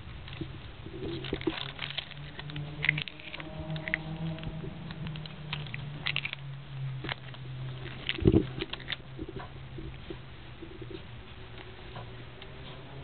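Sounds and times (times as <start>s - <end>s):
cat clawing and biting cord: 0.0s - 13.0s
steady low hum: 0.0s - 13.0s.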